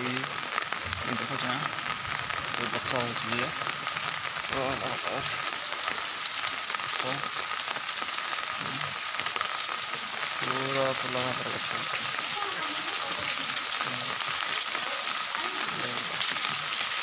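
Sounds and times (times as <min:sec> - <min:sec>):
raindrops striking umbrella: 0:00.0 - 0:17.0
steady rain falling: 0:00.0 - 0:17.0.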